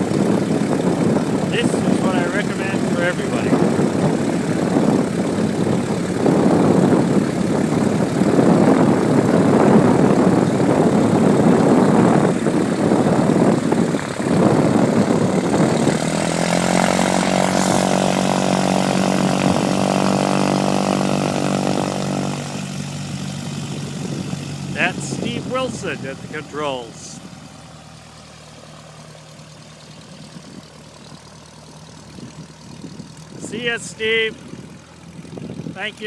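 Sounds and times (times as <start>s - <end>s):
light aircraft engine and propeller: 0.0s - 36.0s.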